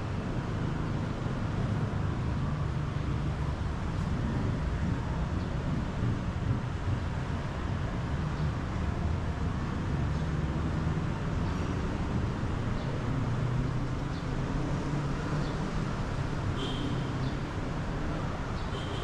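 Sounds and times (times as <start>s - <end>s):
city traffic hum: 0.0s - 19.0s.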